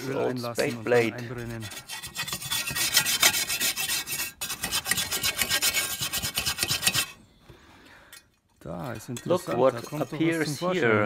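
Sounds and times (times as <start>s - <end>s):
wire brush scrubbing steel: 0.0s - 7.2s, 8.7s - 11.0s.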